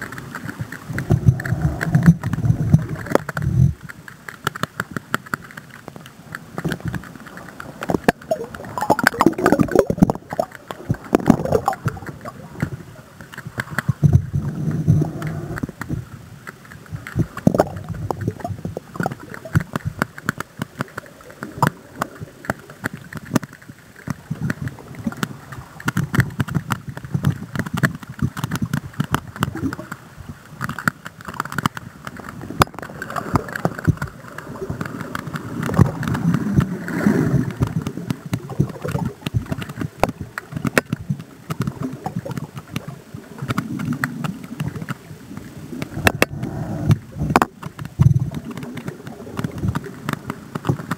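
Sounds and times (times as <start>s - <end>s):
irregular clicks and knocks: 0.0s - 36.9s, 37.5s - 50.9s
underwater rush of moving water: 0.0s - 50.9s.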